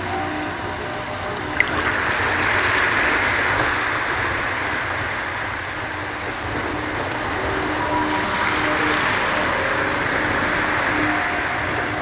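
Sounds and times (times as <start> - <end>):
small waves washing over sand: 1.5 - 12.0.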